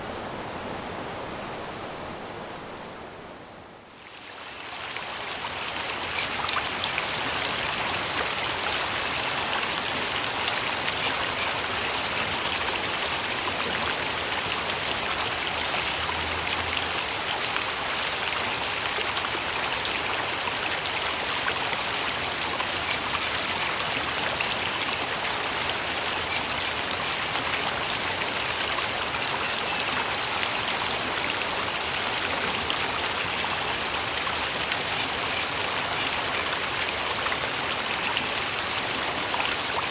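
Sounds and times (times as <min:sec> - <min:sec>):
flowing water splashing: 0:03.9 - 0:39.9.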